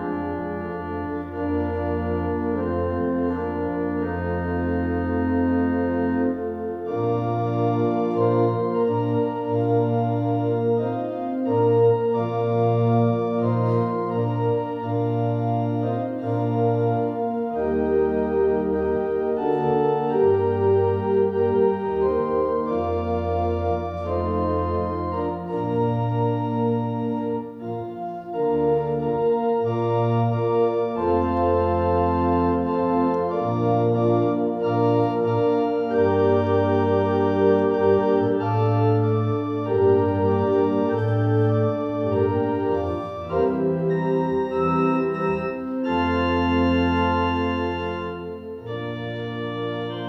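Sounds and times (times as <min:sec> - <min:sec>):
church organ playing a hymn: 0:00.0 - 0:50.0.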